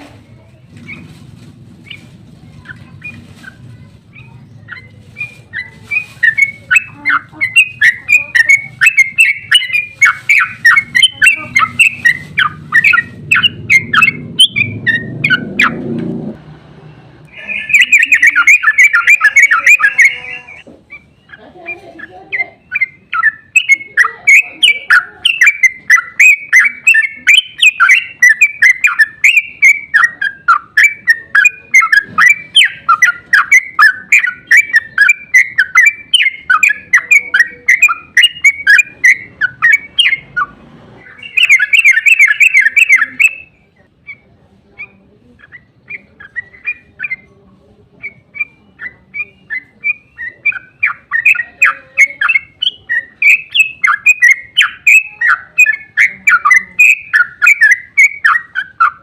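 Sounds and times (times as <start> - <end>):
bird rapid chirping song: 0.0 - 16.0, 17.3 - 59.0.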